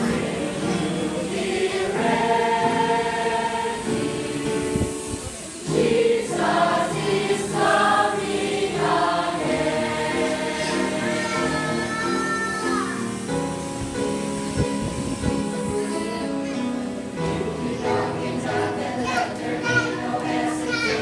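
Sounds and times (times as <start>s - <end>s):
choir singing gospel song: 0.0s - 21.0s.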